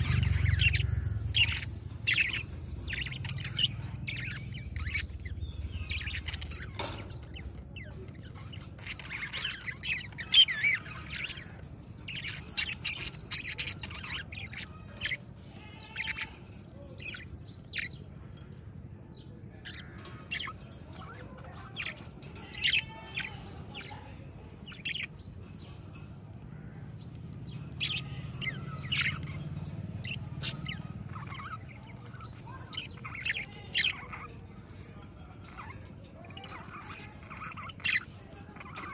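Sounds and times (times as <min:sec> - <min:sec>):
budgerigars chirping: 0:00.0 - 0:18.2, 0:19.5 - 0:38.9.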